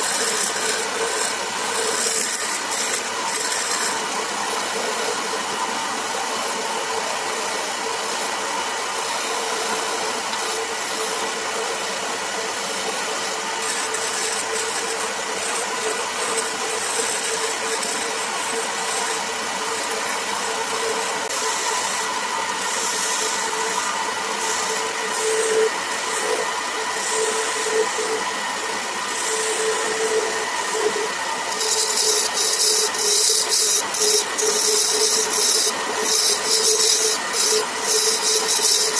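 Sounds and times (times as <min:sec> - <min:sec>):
chisel scraping spinning wood: 0:00.0 - 0:38.9
lathe motor hum: 0:00.0 - 0:38.9.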